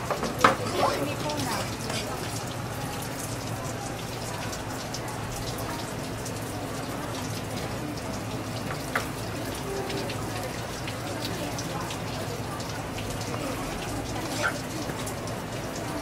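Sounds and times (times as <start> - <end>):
tap water splattering on plastic: 0.0 - 16.0.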